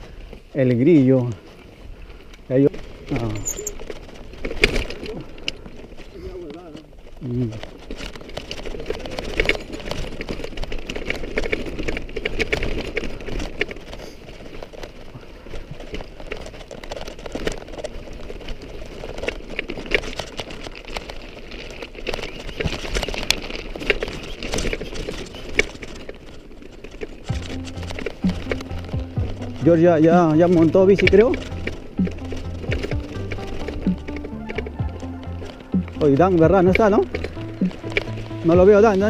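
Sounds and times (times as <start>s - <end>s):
bike clicks and rattles: 0.0s - 39.0s
bike tyres on loose gravel: 0.0s - 39.0s.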